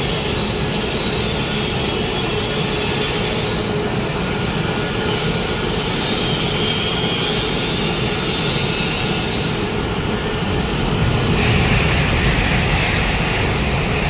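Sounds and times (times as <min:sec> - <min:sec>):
production line machinery running: 0:00.0 - 0:14.0.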